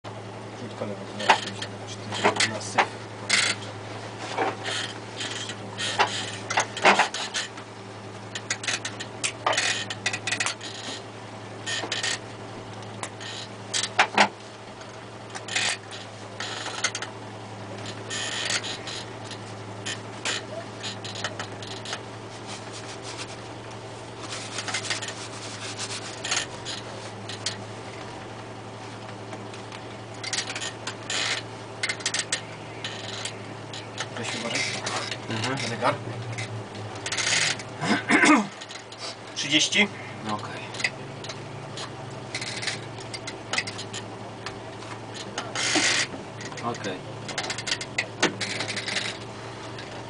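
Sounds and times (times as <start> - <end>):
car engine idling: 0.0 - 50.0
rubbing and clicking near microphone: 0.8 - 37.8, 40.4 - 50.0.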